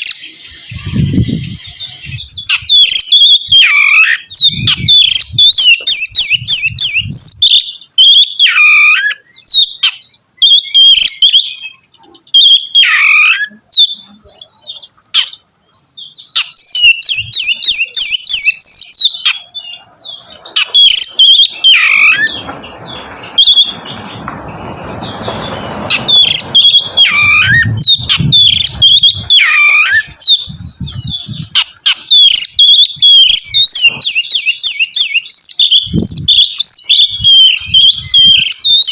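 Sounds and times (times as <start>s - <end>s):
bird singing chirps and whistles: 0.0s - 24.2s, 24.8s - 38.9s.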